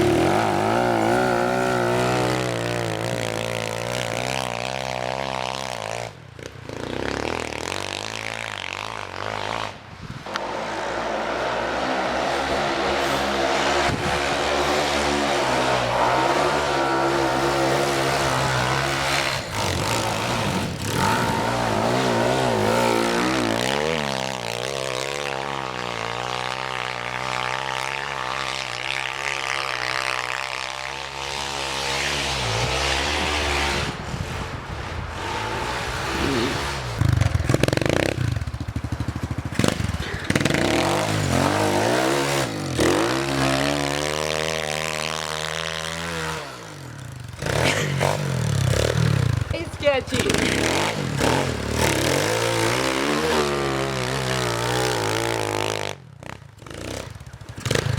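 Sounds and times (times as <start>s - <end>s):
small motorbike engine revving: 0.0s - 57.9s.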